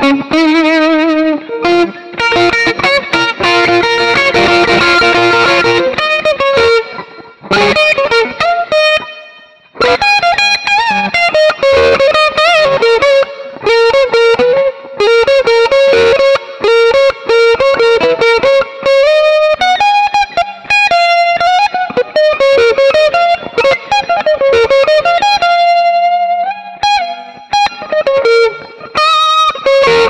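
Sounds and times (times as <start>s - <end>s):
electric guitar lead line: 0.0s - 30.0s.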